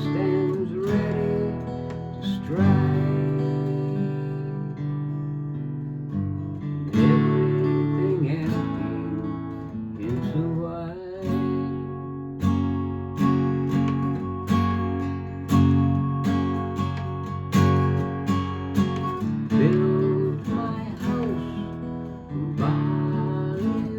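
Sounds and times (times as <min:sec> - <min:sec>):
acoustic guitar chords: 0:00.0 - 0:23.9.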